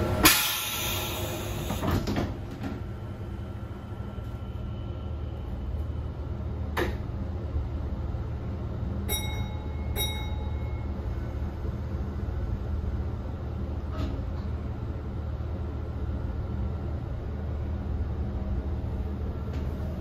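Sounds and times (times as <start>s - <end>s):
train interior rumble: 0.0s - 20.0s.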